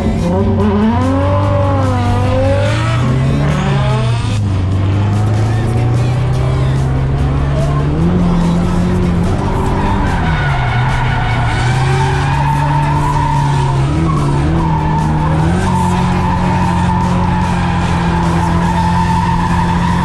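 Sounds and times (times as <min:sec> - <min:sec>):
car engine at high revs: 0:00.0 - 0:20.0
tyres skidding: 0:00.0 - 0:20.0.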